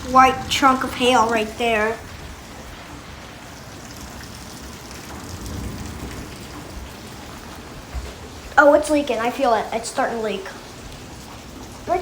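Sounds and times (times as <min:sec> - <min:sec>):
hailstones ticking: 0:00.0 - 0:12.0
rain and hail pattering: 0:00.0 - 0:12.0.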